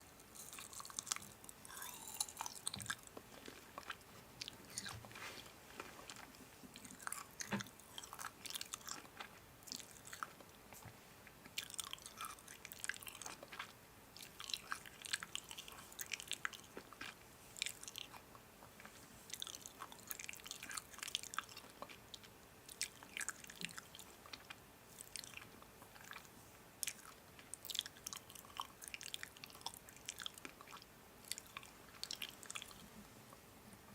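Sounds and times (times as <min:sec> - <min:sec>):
person chewing crunchy food: 0:00.2 - 0:10.8, 0:11.4 - 0:32.8.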